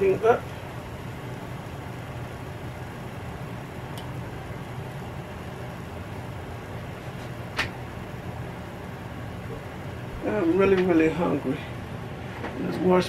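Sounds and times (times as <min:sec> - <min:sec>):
low background hum and hiss: 0:00.0 - 0:13.0.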